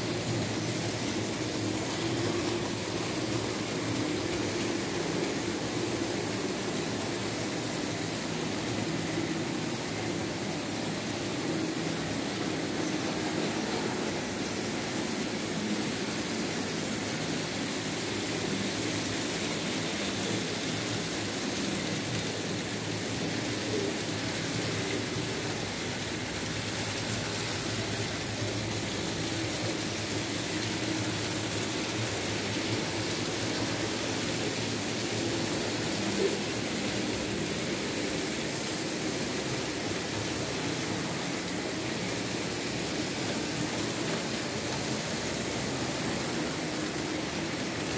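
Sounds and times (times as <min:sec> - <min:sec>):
model train motor hum: 0:00.0 - 0:47.9
wheels rumbling on rails: 0:00.0 - 0:47.9.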